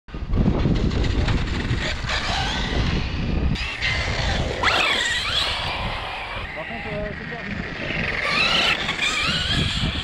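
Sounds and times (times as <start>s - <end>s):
electric motor whining: 1.7s - 10.0s.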